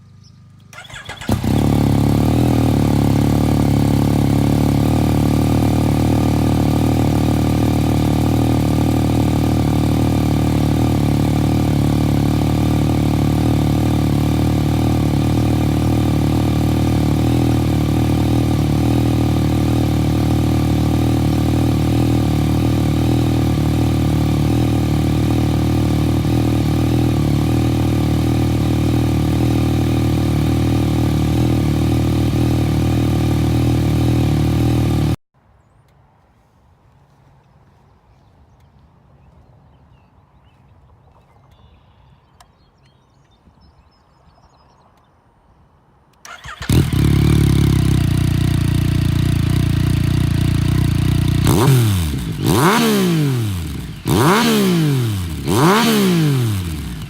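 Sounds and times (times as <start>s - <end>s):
motorcycle engine idling: 0.0s - 35.2s, 46.3s - 57.0s.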